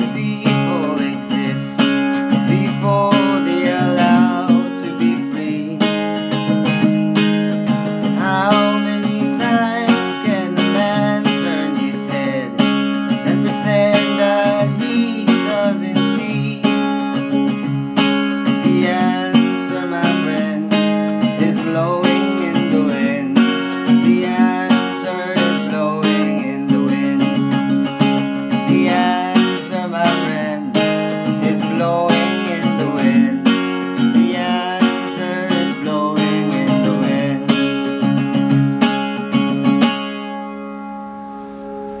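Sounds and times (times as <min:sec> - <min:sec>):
acoustic guitar strumming chords: 0:00.0 - 0:42.0.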